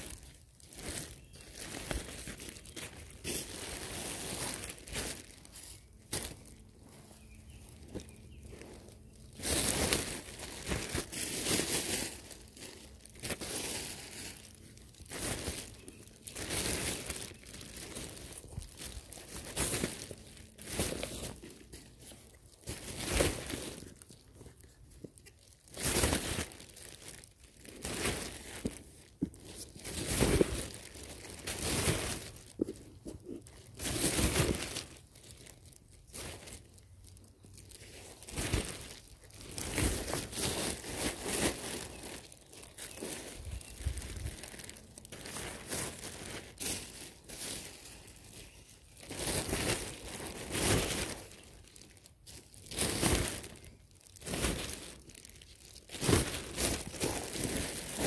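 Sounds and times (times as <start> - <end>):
plastic bag crinkling: 0.0 - 58.0.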